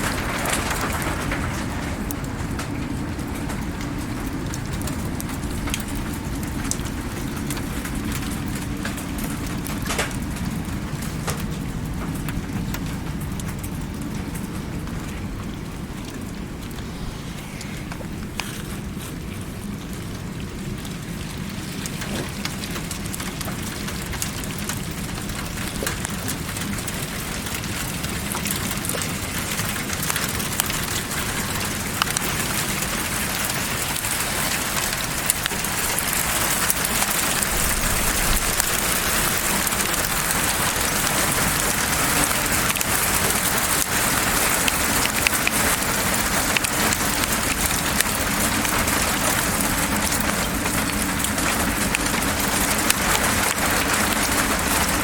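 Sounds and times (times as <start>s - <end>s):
steady hiss with ticks: 0.0s - 55.0s.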